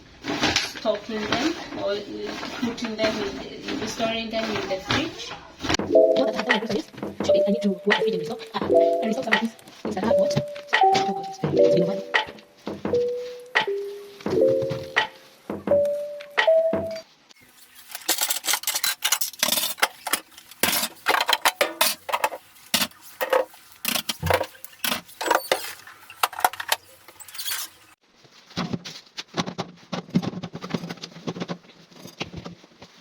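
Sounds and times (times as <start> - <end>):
kitchen items clattering: 0.0 - 33.0.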